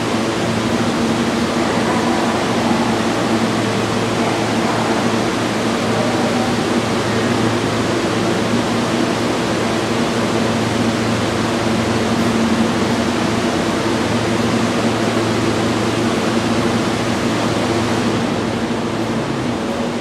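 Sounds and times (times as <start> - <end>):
train equipment low hum: 0.0 - 20.0.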